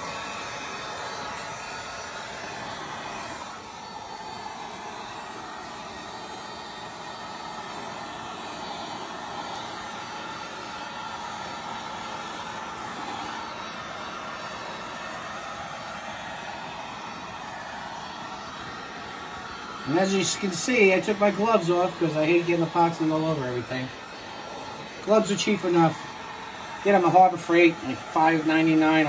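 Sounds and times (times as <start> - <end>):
heat gun fan blowing: 0.0 - 29.0.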